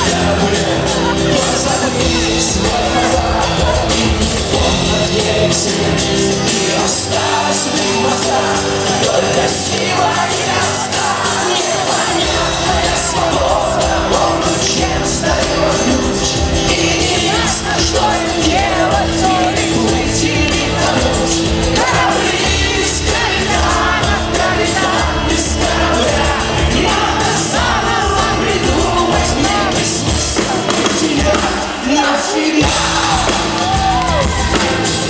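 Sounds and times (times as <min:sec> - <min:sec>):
live rock band playing: 0:00.0 - 0:35.0
voices singing: 0:00.0 - 0:35.0.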